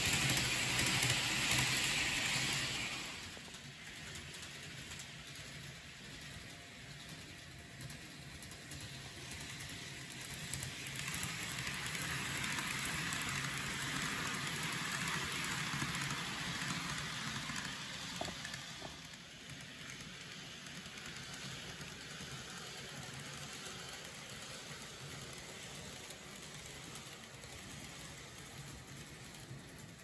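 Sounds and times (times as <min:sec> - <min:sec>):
model train wheels on rails: 0:00.0 - 0:30.0.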